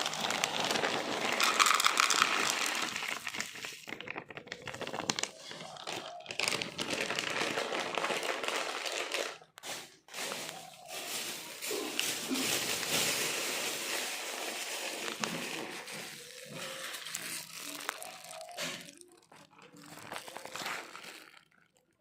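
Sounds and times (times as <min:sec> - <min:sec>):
rustling crinkling noise: 0:00.0 - 0:22.0.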